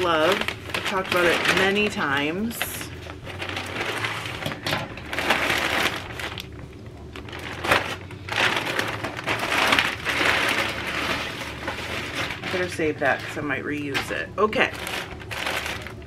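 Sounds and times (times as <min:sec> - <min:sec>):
plastic envelope crinkling: 0:00.0 - 0:16.0.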